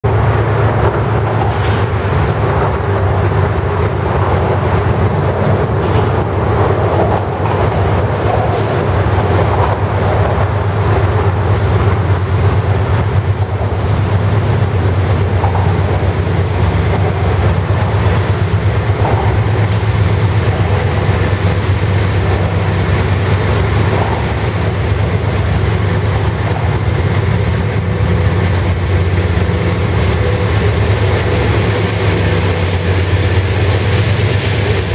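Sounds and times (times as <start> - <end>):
diesel locomotive engines humming: 0.0 - 34.9
steel wheels rolling on rails: 0.0 - 34.9.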